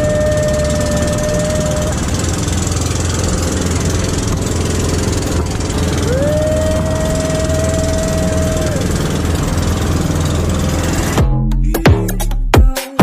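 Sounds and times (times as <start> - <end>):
high steady whine: 0.0 - 11.3
boat engine rumbling: 0.0 - 11.5.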